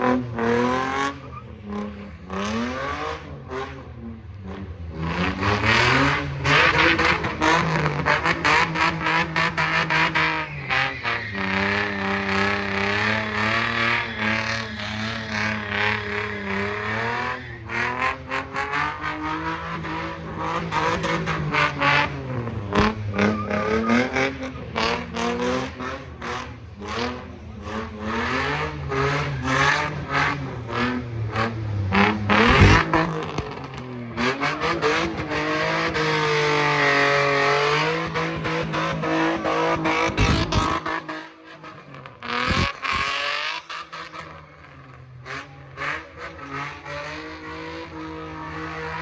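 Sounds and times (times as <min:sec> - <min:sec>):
car engine revving hard: 0:00.0 - 0:49.0.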